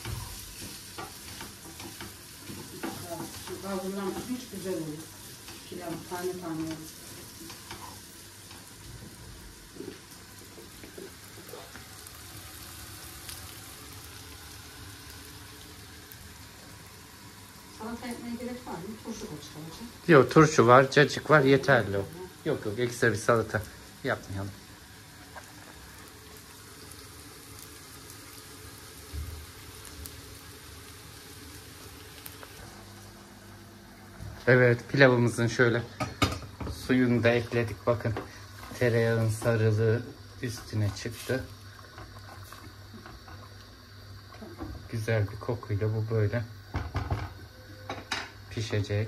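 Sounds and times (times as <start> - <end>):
rice sizzling in butter: 0.0 - 49.0.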